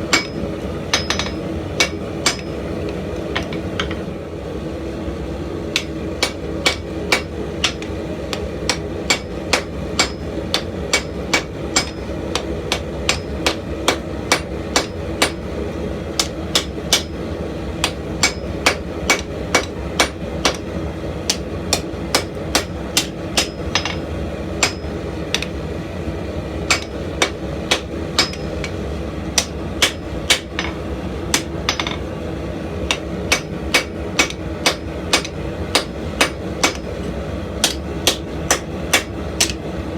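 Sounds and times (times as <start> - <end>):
hammer striking hot steel on anvil: 0.0 - 4.1, 5.7 - 25.7, 26.6 - 32.2, 32.8 - 39.8
steady background noise: 0.0 - 39.9.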